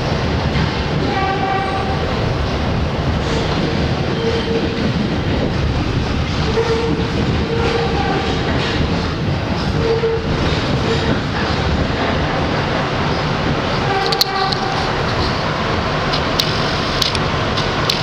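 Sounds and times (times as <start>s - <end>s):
subway wheels rumbling on rails: 0.0s - 18.0s.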